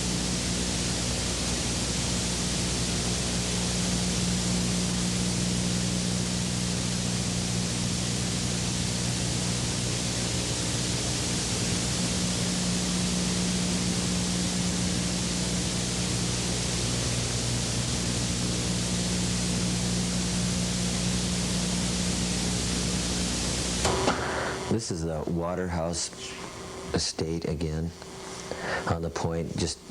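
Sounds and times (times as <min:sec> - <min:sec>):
low electrical hum: 0:00.0 - 0:29.9
steady hiss: 0:00.0 - 0:29.9.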